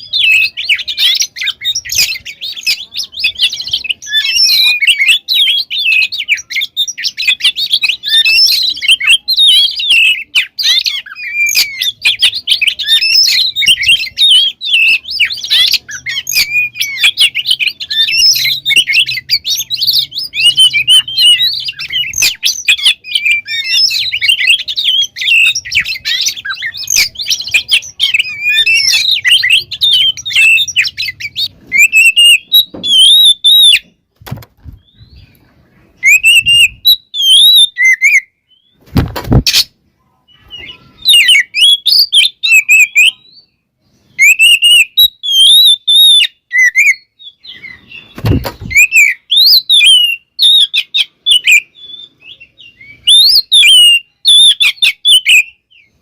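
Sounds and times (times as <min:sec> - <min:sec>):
songbird singing varied whistles: 0:00.0 - 0:34.0, 0:36.0 - 0:39.7, 0:40.3 - 0:56.0.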